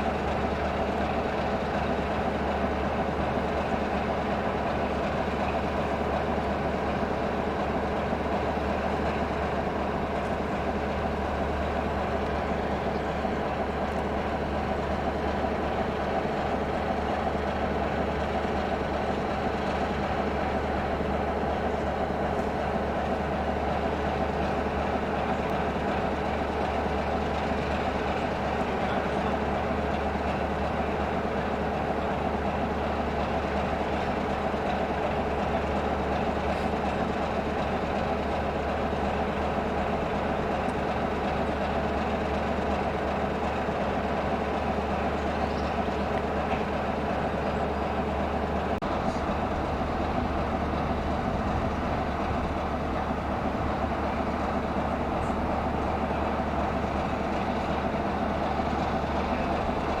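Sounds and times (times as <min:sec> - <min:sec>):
diesel locomotive engine droning: 0:00.0 - 1:00.0.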